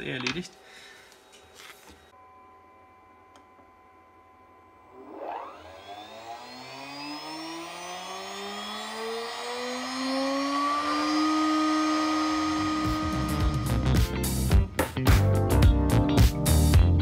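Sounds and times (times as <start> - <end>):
spindle motor whine: 0.2 - 14.8.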